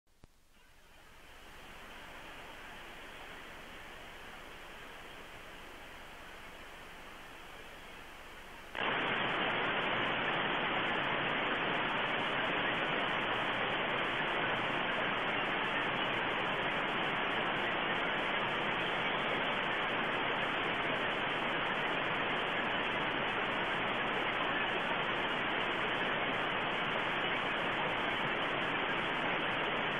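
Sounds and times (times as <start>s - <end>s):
static hiss: 0.1s - 29.9s.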